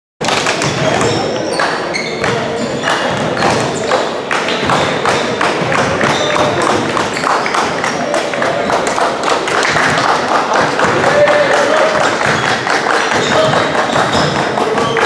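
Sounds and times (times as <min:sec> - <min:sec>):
basketball bouncing on court: 0:00.2 - 0:08.1, 0:09.7 - 0:15.0.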